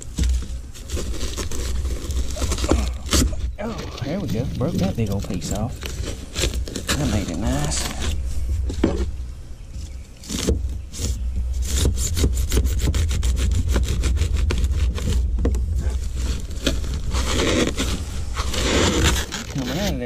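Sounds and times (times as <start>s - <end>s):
steady low rumble: 0.0s - 19.2s
foam crackling and squeaking: 0.0s - 20.0s.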